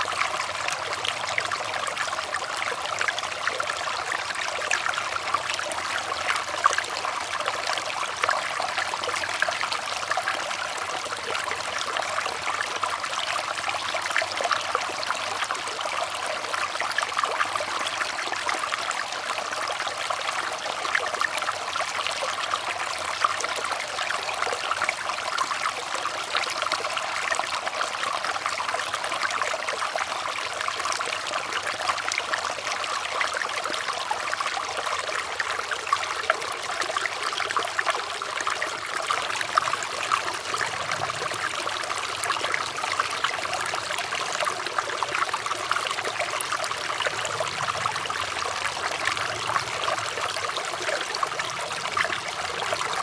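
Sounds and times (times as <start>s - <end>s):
water trickling and splashing: 0.0s - 53.0s.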